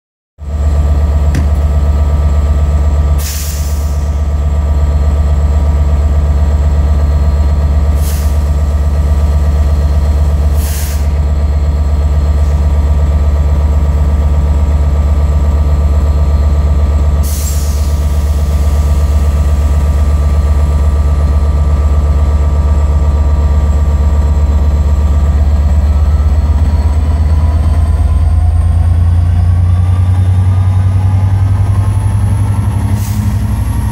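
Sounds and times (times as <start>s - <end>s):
diesel locomotive engine idling: 0.4s - 33.9s.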